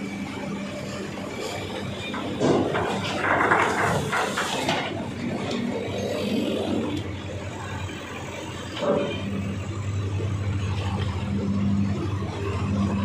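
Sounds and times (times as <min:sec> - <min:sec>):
heavy machinery humming: 0:00.0 - 0:13.0.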